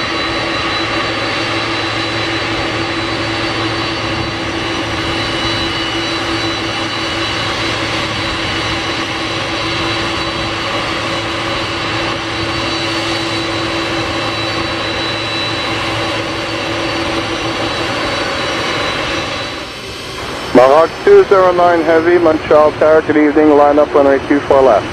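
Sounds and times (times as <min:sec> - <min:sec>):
high whine: 0:00.0 - 0:24.9
jet engines running: 0:00.0 - 0:24.9.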